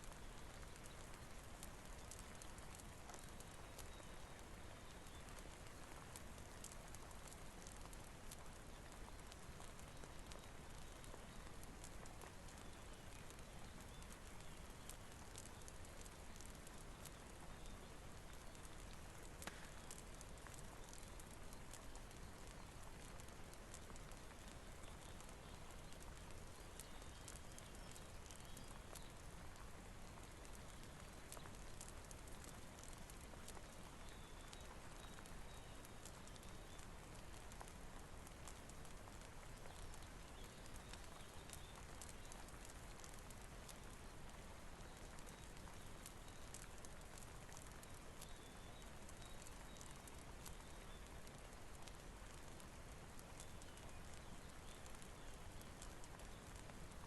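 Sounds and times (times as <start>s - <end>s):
faint rainfall hiss: 0.0s - 57.0s
wood fire crackling: 0.0s - 57.0s.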